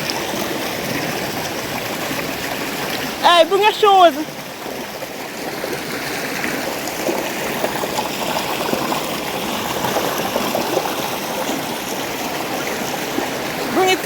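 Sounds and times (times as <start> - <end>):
stream running over stones: 0.0 - 14.0.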